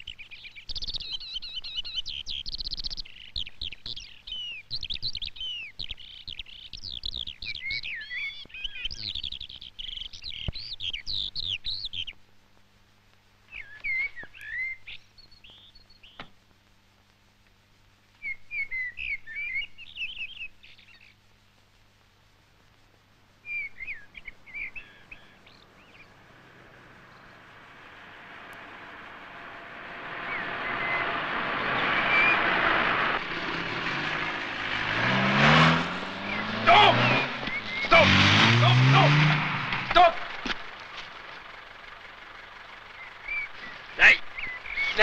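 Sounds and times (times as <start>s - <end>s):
faint low hum: 0.0s - 45.0s
songbirds chirping and trilling: 0.0s - 45.0s.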